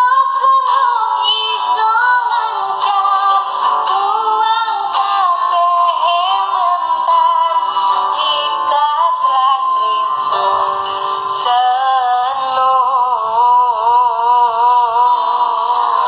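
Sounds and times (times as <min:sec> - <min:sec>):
woman singing: 0:00.0 - 0:10.6, 0:11.2 - 0:16.0
acoustic guitar: 0:00.0 - 0:16.0.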